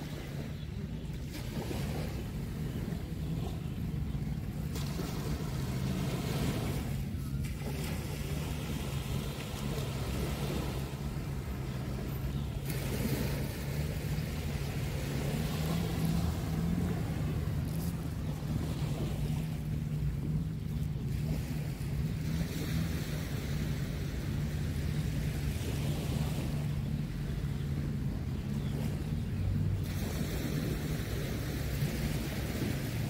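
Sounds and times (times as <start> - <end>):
small waves washing onto shore: 0.0 - 33.0
low motor drone: 0.1 - 33.0.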